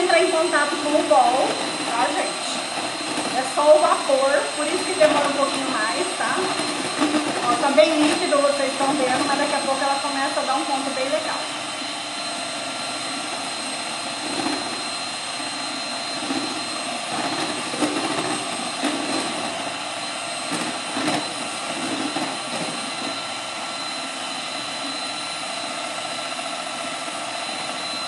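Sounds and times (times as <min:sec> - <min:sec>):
electric mixer whipping: 0:00.0 - 0:28.0.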